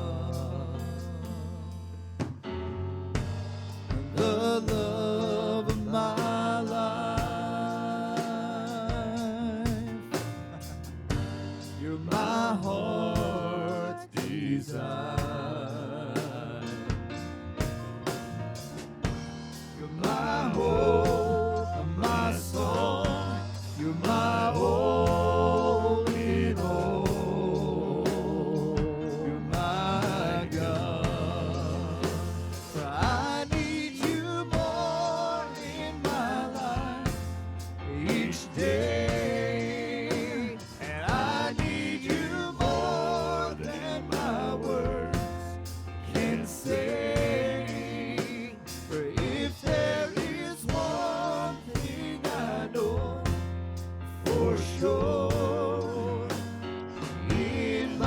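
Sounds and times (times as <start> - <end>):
gospel praise song with band: 0.0 - 58.0.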